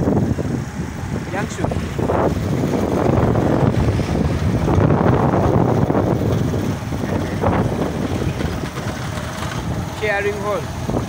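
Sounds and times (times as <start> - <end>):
road noise: 0.0 - 11.0
traffic: 0.0 - 11.0
wind rushing over microphone: 0.0 - 11.0.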